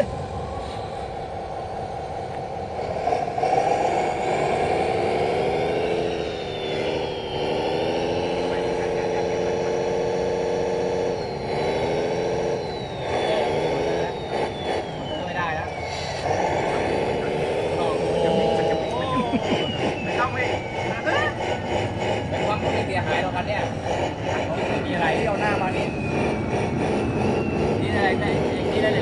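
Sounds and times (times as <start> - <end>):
toy truck motor whine: 2.6 - 29.0.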